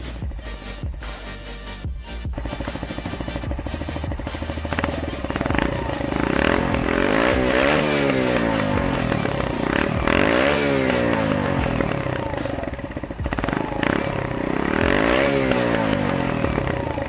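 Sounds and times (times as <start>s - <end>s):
motorcycle engine revving: 0.0s - 1.3s, 1.9s - 17.0s.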